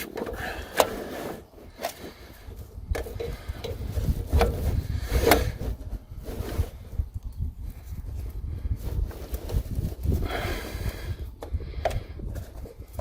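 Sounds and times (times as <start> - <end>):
low rubbing rumble: 1.1 - 12.5.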